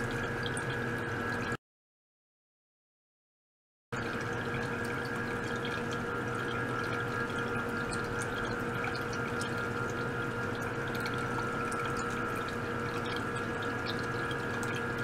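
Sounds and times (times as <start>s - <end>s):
pump humming and whining: 0.0s - 1.6s, 4.0s - 15.0s
water trickling and bubbling: 0.0s - 1.6s, 4.0s - 15.0s.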